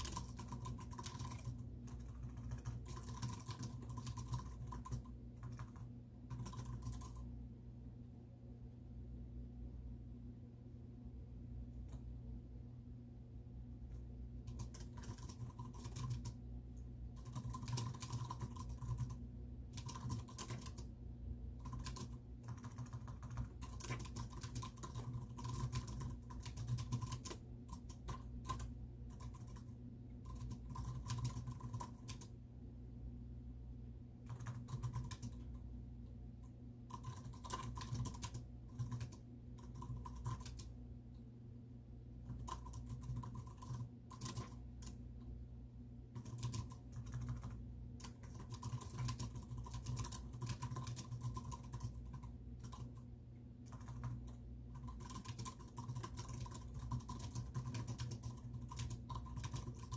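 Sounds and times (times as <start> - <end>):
low room hum: 0.0 - 59.9.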